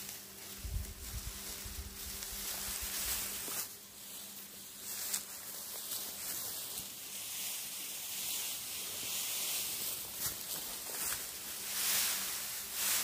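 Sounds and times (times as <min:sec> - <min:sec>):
dry straw rustling: 0:00.0 - 0:13.0
steady hiss: 0:00.0 - 0:13.0.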